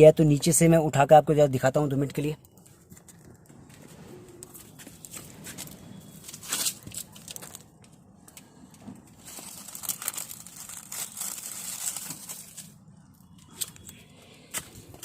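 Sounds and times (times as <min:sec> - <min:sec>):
rustling and scraping handling: 0:02.5 - 0:15.0.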